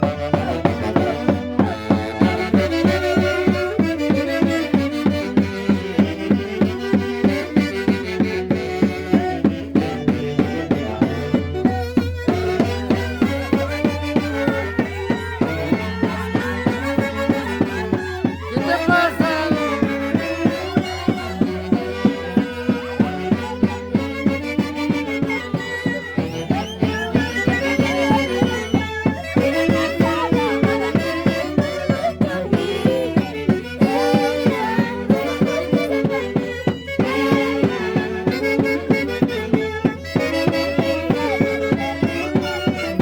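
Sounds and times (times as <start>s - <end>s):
band playing dance music: 0.0s - 43.0s.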